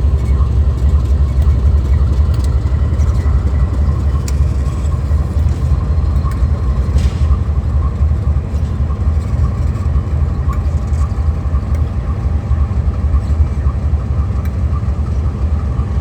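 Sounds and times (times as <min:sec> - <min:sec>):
locomotive engine rumbling: 0:00.0 - 0:16.0.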